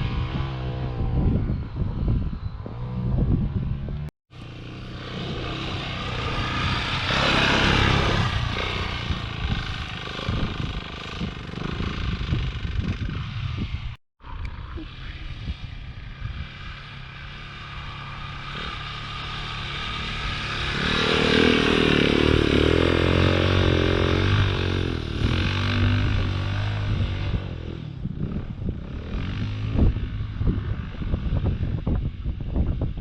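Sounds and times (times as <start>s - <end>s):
wind buffeting microphone: 0.0s - 4.1s, 5.0s - 17.2s, 18.3s - 33.0s
motorcycle engine revving: 0.0s - 14.0s, 14.8s - 33.0s.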